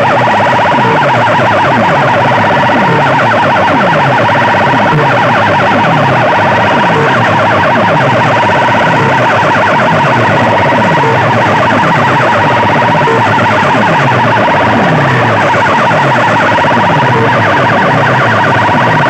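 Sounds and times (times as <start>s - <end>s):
electronic siren alarm effect: 0.0s - 19.0s.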